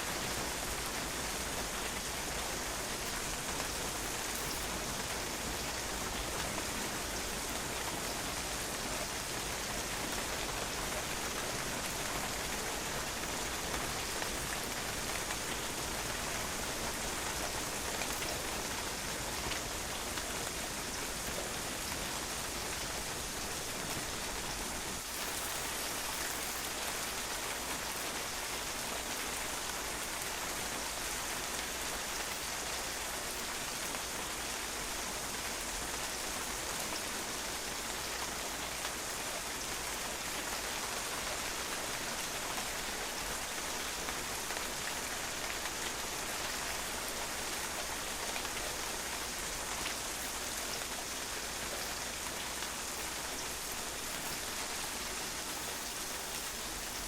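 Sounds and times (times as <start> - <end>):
rain splashing on a patio: 0.0 - 57.0.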